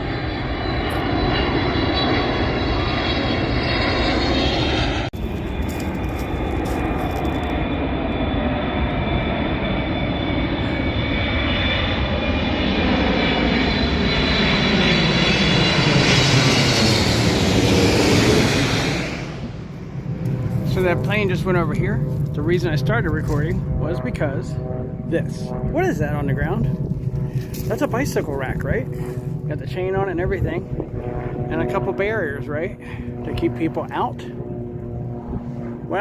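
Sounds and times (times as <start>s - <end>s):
airplane engine roar: 0.0s - 36.0s.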